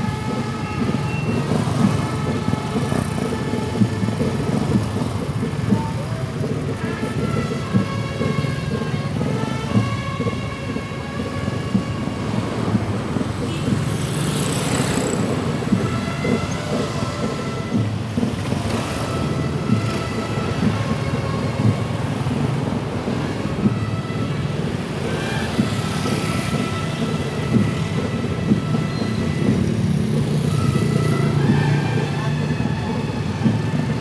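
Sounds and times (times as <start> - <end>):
motorcycle engines rumbling: 0.0 - 34.0.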